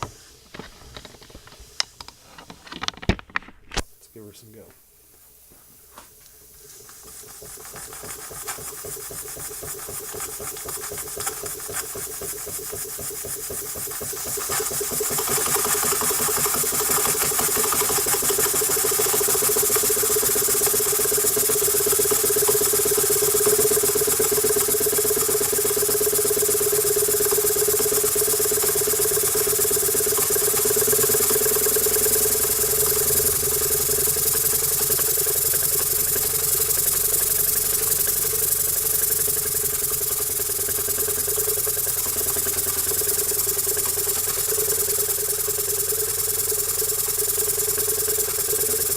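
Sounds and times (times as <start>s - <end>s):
model steam engine exhaust beats: 4.0s - 48.9s
steam hissing: 4.1s - 48.9s.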